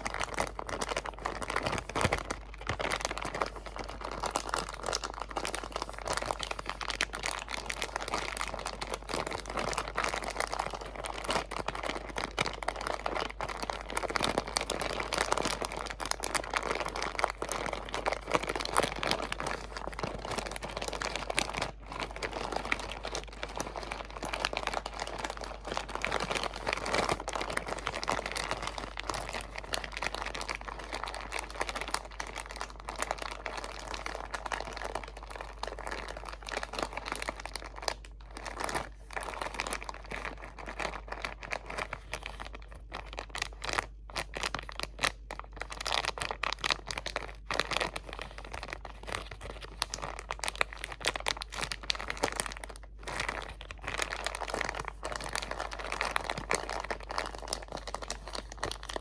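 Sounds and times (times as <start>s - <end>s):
crinkly material crumpled by hand: 0.0s - 59.0s.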